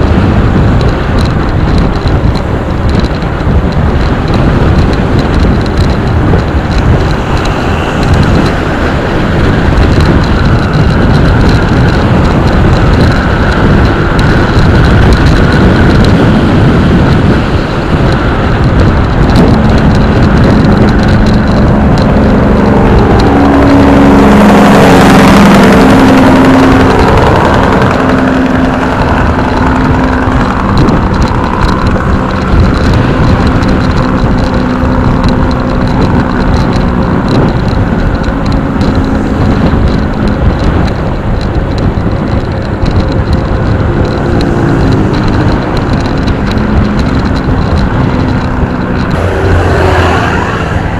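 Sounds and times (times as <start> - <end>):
motorcycle engine drone: 0.0 - 50.9
wind noise on microphone: 0.0 - 50.9.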